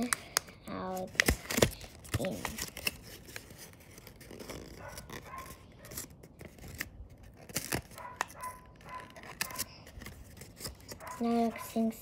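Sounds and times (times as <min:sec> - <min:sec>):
paper folding and crackling: 0:00.0 - 0:11.8.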